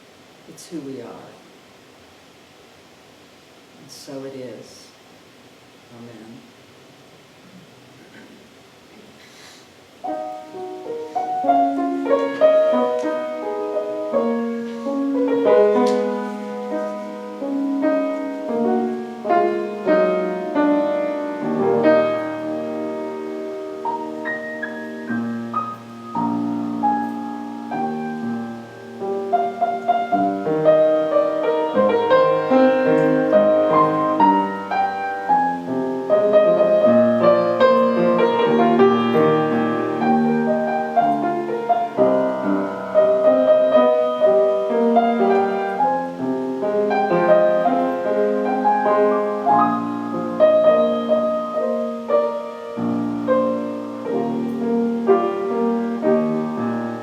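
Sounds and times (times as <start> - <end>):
solo piano piece: 9.8 - 57.0.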